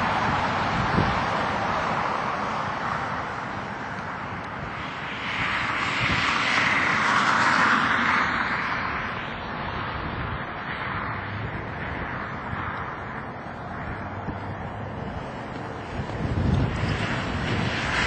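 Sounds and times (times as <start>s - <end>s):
jet engine rush: 0.0s - 18.0s.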